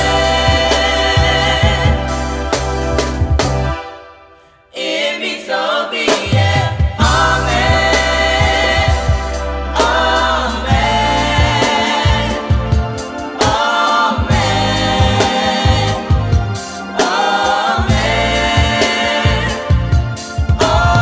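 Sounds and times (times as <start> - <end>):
song: 0.0 - 5.4, 6.3 - 21.0
gospel choir singing with band: 0.0 - 21.0.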